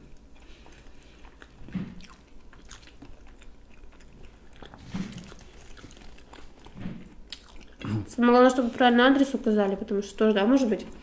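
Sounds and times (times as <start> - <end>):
close chewing with mouth clicks: 0.0 - 8.9.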